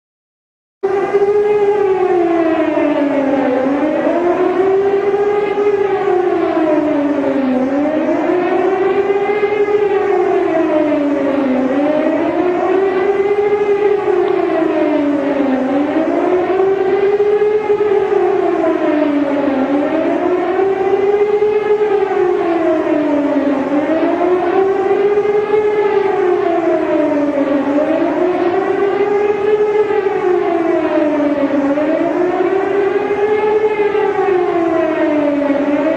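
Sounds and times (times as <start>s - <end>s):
warning siren wailing: 0.8s - 35.9s.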